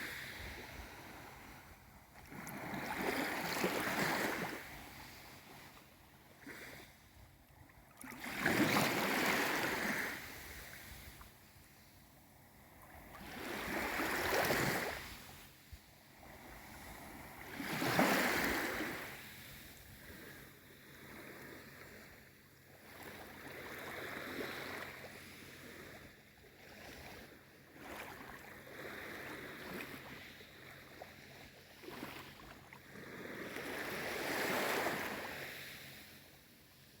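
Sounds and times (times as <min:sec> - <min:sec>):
small sea waves washing in: 0:00.0 - 0:37.0.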